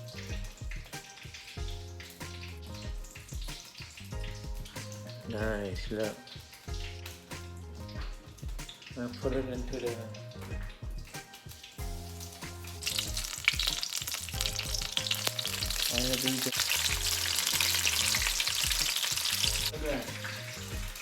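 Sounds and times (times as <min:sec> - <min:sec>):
food sizzling in a skillet: 0:00.0 - 0:21.0.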